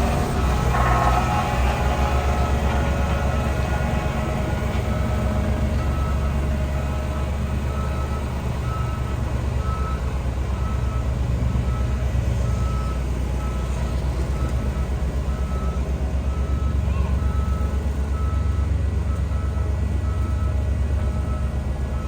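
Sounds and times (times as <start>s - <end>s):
bulldozer diesel engine: 0.0s - 22.0s
reversing alarm beeping: 0.0s - 22.0s.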